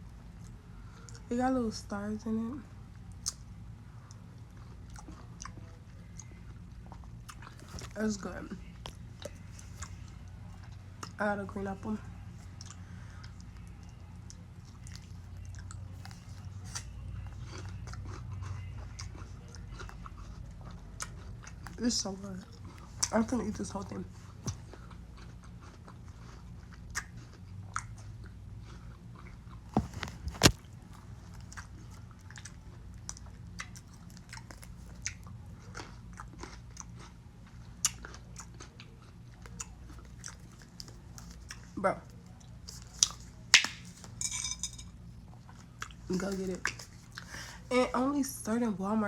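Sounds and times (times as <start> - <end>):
person chewing crisp apple: 2.9 - 44.1, 45.0 - 47.7.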